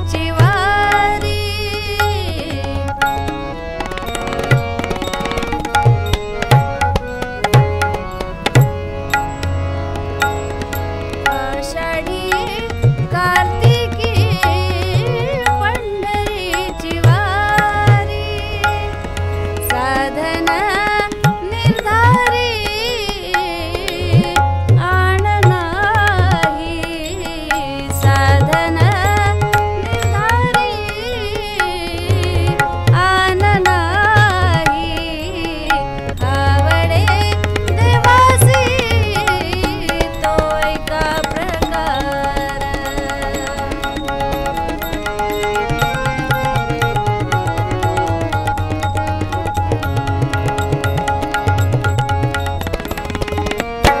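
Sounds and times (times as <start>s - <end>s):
harmonium: 0.0s - 54.0s
woman singing devotional song: 0.0s - 54.0s
tabla deep strokes: 0.1s - 54.0s.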